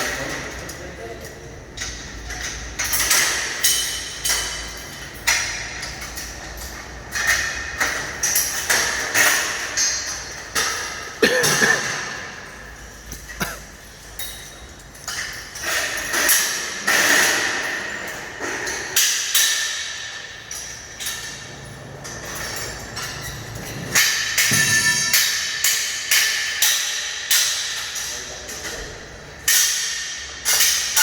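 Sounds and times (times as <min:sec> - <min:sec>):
steel scaffolding parts clanking: 0:00.0 - 0:31.0.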